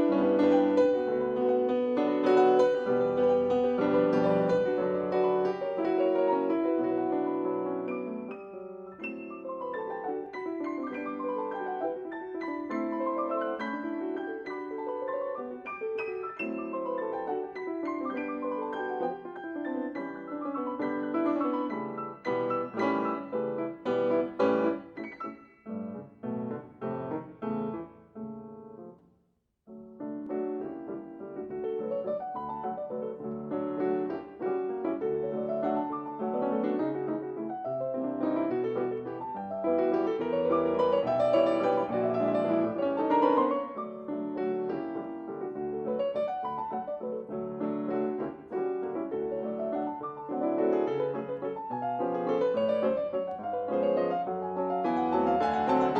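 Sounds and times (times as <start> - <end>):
solo piano music: 0.0 - 55.9.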